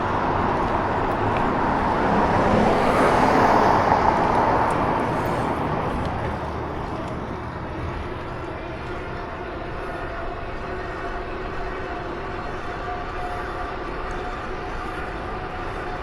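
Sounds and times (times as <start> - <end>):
vehicle road and wind noise: 0.0 - 16.0.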